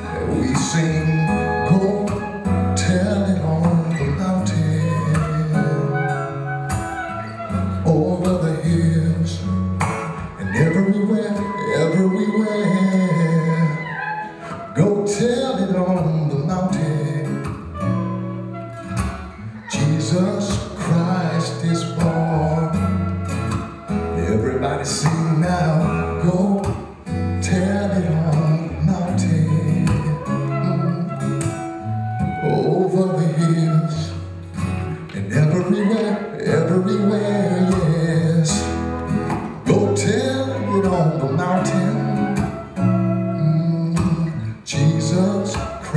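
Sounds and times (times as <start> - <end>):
man singing: 0.0 - 18.2, 19.3 - 45.9
acoustic guitar strumming: 0.0 - 45.9.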